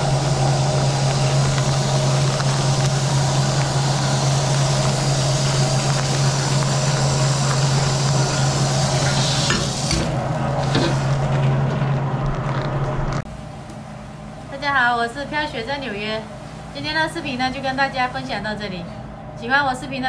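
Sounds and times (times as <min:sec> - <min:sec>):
low hum of kitchen machinery: 0:00.0 - 0:20.0.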